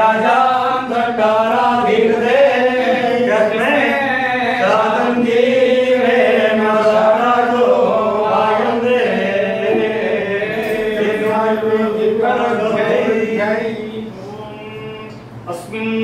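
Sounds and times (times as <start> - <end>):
group of priests chanting: 0.0 - 16.0.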